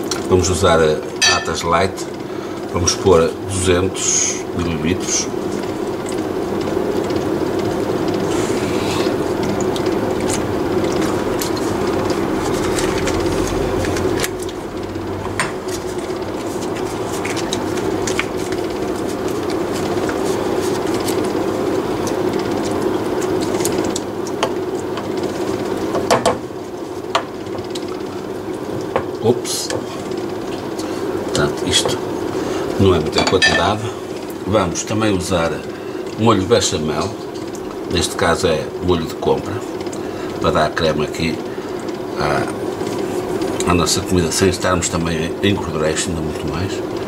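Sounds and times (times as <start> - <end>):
kitchen appliance humming: 0.0 - 47.0.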